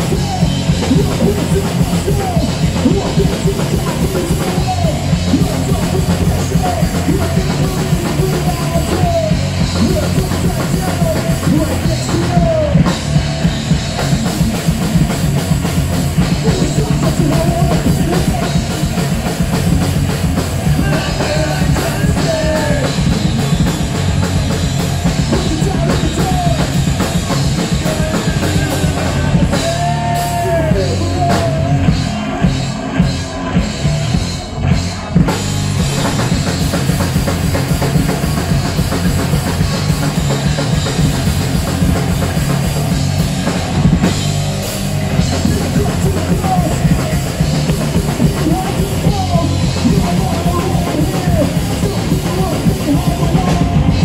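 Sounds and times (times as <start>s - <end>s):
distorted electric guitars: 0.0s - 54.0s
drum kit fast beat: 0.0s - 54.0s
rock band playing loudly: 0.0s - 54.0s.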